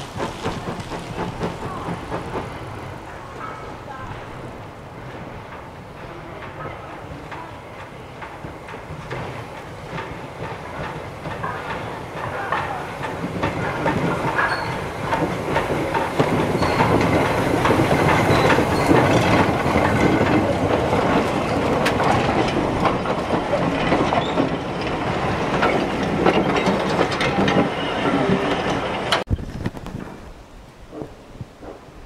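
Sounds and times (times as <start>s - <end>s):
train wheels clacking on rail joints: 0.0s - 30.2s, 30.9s - 32.0s.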